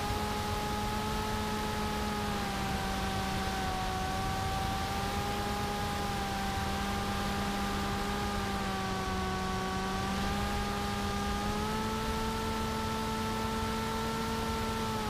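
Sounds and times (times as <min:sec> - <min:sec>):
electric motor propeller whine: 0:00.0 - 0:15.0.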